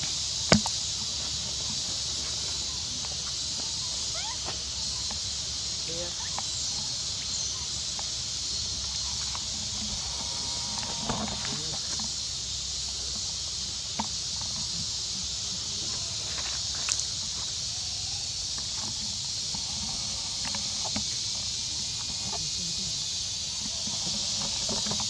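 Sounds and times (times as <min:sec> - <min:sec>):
high-pitched hiss: 0:00.0 - 0:25.0.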